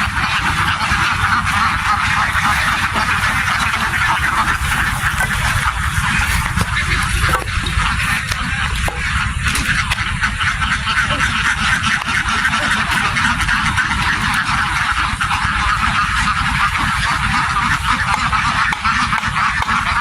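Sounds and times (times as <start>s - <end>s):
flock of ducks quacking: 0.0s - 20.0s
steady low rumble: 0.0s - 20.0s.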